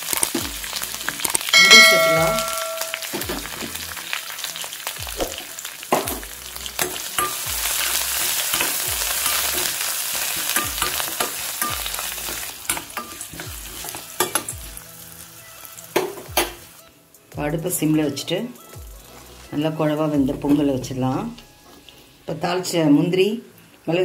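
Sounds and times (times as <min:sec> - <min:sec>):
spices sizzling in hot oil: 0:00.0 - 0:24.0.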